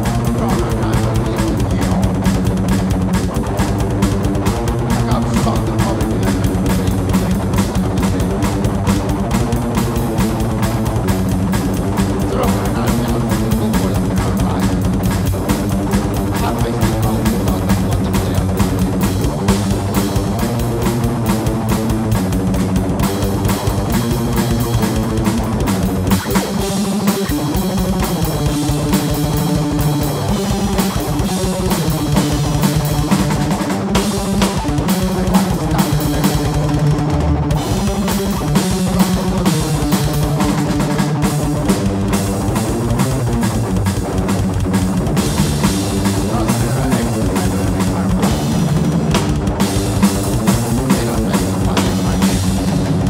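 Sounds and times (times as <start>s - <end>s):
distorted guitar riffs: 0.0s - 53.0s
rapid drumming on drum kit: 0.0s - 53.0s.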